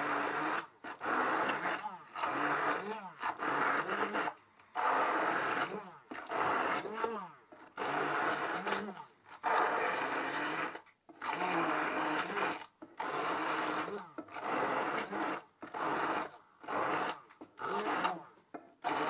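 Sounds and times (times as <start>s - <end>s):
immersion blender motor: 0.0s - 19.0s.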